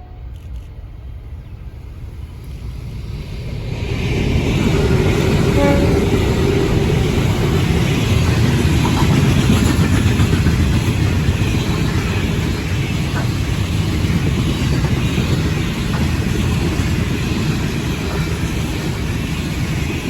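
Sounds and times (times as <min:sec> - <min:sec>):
diesel locomotives rumbling: 0:00.0 - 0:20.0
rolling train wagons: 0:01.4 - 0:20.0.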